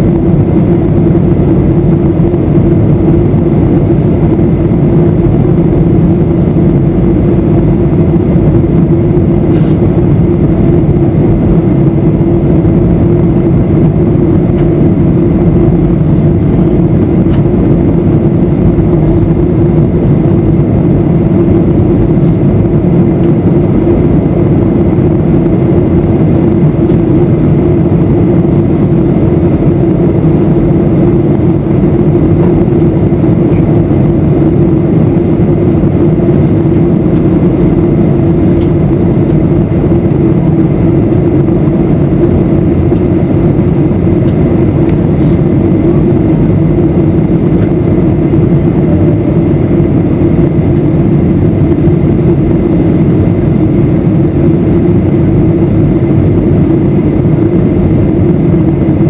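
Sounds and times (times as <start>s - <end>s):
jet engine drone: 0.0s - 59.0s
rushing air: 0.0s - 59.0s
steady low hum: 0.0s - 59.0s.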